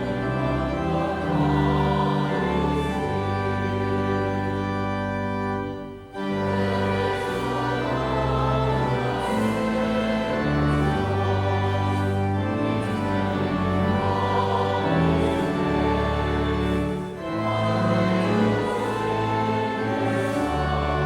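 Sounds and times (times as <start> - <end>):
choir singing: 0.0 - 21.0
organ chords: 0.0 - 21.0.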